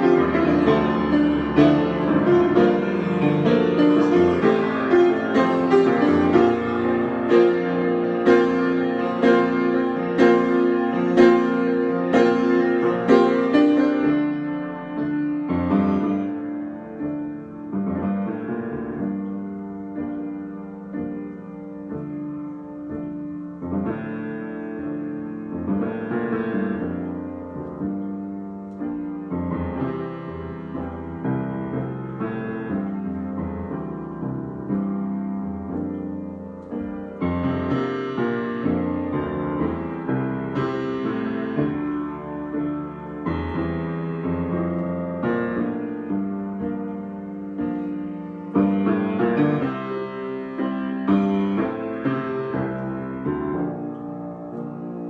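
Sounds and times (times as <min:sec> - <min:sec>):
solo piano improvisation: 0:00.0 - 0:55.0.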